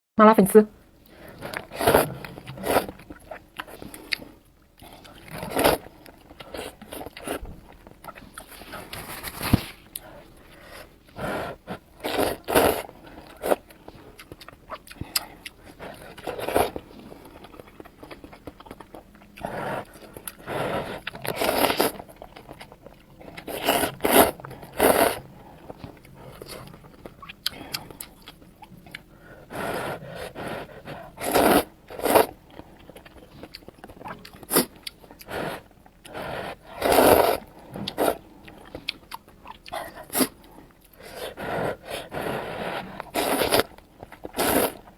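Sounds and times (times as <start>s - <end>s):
chewing and biting noodles: 1.1s - 44.9s.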